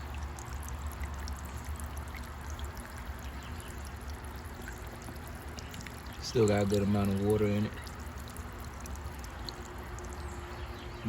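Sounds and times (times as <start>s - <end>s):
water splashing into basin: 0.0s - 10.5s
low pump rumble: 0.0s - 11.0s.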